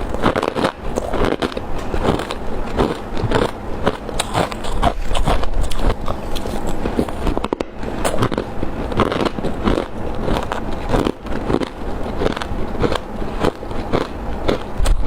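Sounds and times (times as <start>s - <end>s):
crunching ice: 0.0s - 15.0s.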